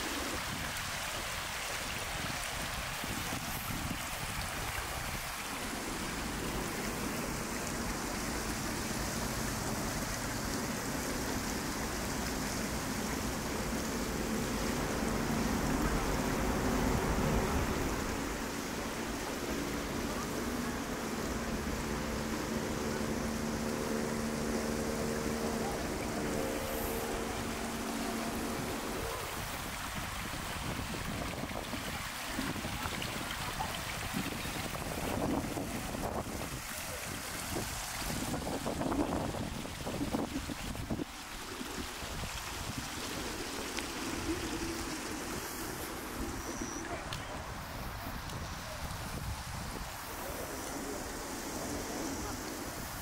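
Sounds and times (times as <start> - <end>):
water flowing in a pool: 0.0 - 53.0.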